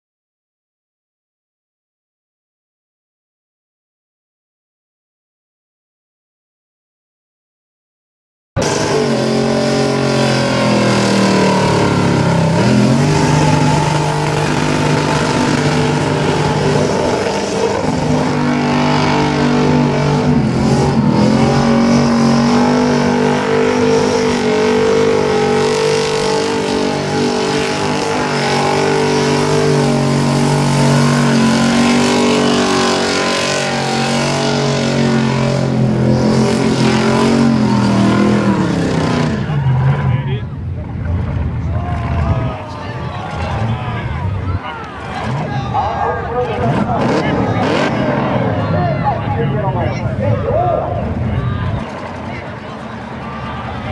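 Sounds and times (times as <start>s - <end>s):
car engine revving high: 8.6s - 53.9s.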